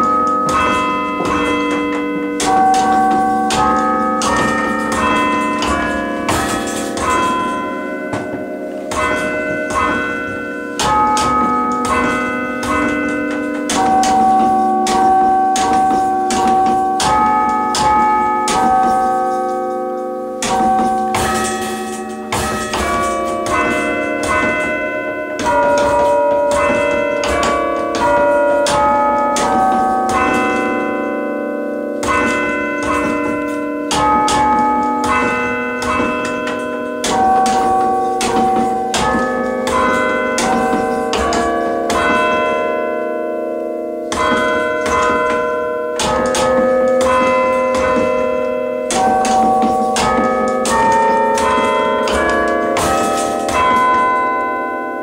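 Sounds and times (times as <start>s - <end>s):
tower bells playing slow melody: 0.0s - 55.0s.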